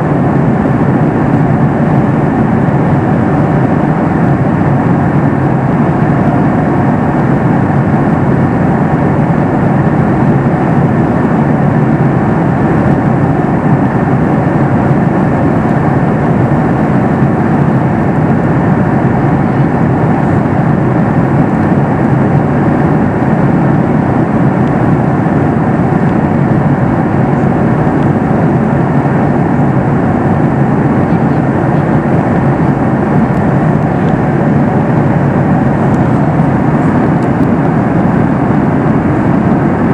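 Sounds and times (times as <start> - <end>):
airplane cabin noise: 0.0 - 39.9
jet engine noise: 0.0 - 39.9
rush of airflow: 0.0 - 39.9.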